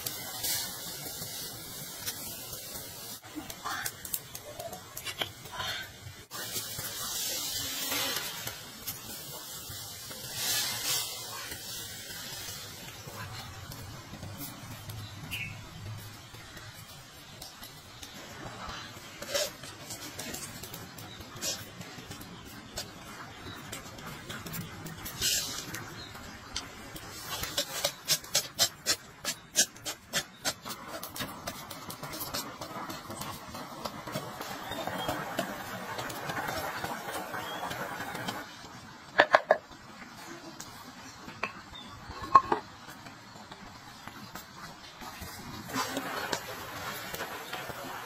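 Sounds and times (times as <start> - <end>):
pot boiling with bubbling hiss: 0.0 - 48.0.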